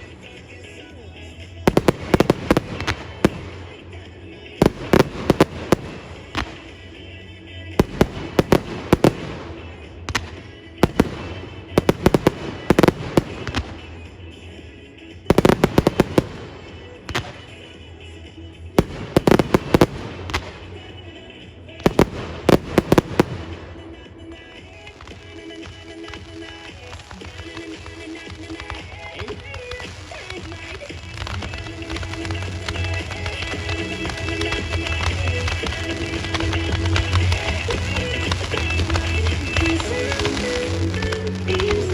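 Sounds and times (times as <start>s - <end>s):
fireworks bangs and crackles: 0.0s - 41.9s
music playing: 0.0s - 41.9s.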